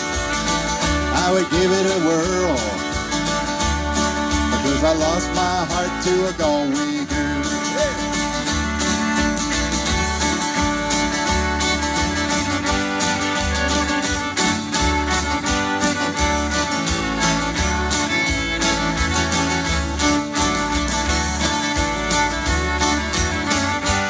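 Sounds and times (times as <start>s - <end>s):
fiddle playing melody: 0.0s - 24.0s
strummed acoustic guitar: 0.0s - 24.0s.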